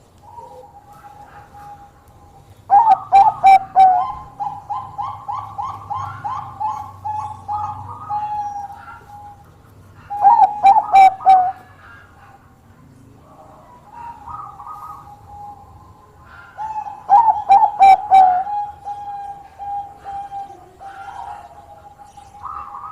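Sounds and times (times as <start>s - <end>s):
dove cooing: 0.0s - 12.5s, 13.3s - 22.9s.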